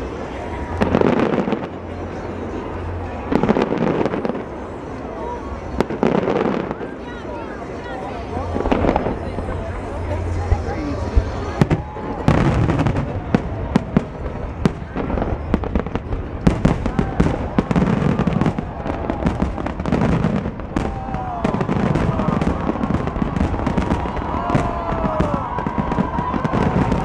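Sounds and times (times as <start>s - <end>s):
fireworks bangs and crackles: 0.0s - 27.0s
spectators' voices: 0.0s - 27.0s.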